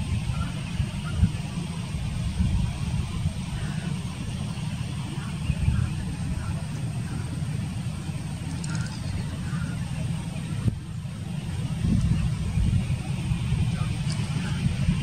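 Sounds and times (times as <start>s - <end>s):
distant jet airliner rumble: 0.0s - 15.0s
wind buffeting microphone: 0.0s - 15.0s.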